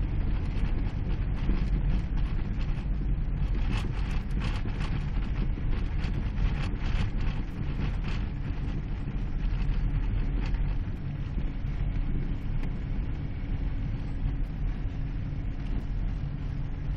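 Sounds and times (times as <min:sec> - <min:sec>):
engine and road rumble: 0:00.0 - 0:16.9.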